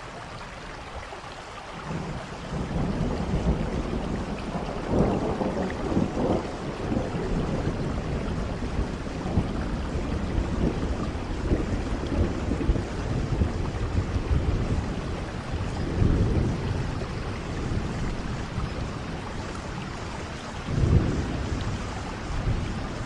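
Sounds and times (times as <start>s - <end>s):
rain hissing: 0.0s - 23.0s
thunder rumbling: 1.9s - 23.0s.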